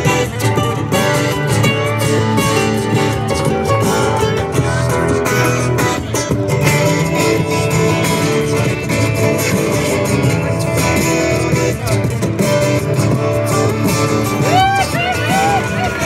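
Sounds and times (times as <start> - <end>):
acoustic guitars strummed: 0.0 - 16.0.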